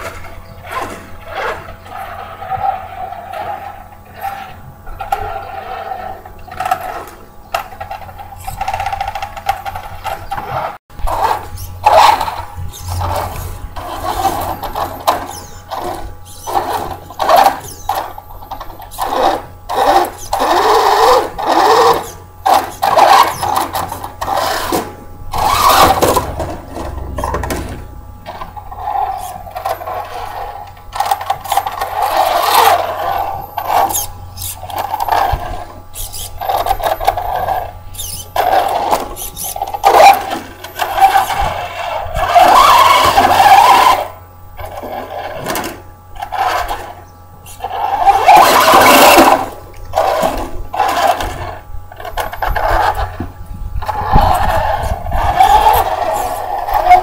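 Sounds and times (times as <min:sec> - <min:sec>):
electric motor whining: 0:00.0 - 0:57.0
tyres scrabbling on dirt: 0:00.0 - 0:57.0.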